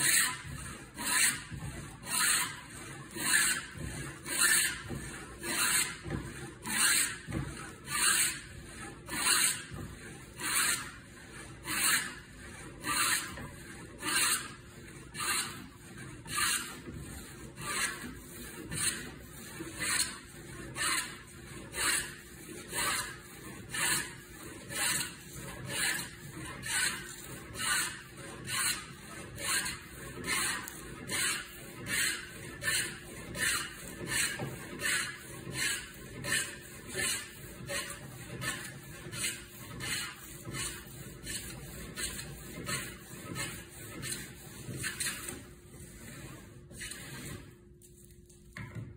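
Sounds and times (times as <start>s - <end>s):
hand plane shaving wood: 0.0s - 48.1s.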